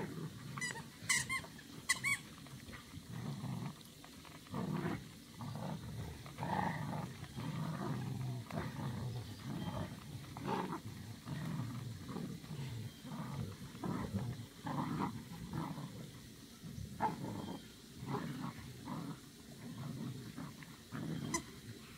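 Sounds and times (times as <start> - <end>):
puppies growling: 0.0 - 21.9.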